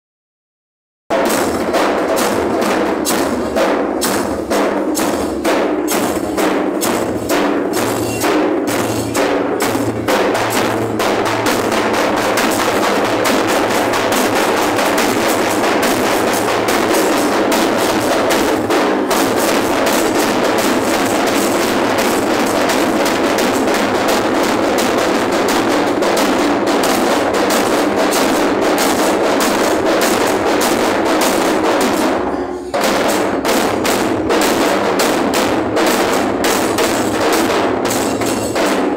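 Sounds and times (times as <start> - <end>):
barrel drums beaten with sticks: 1.1 - 38.9.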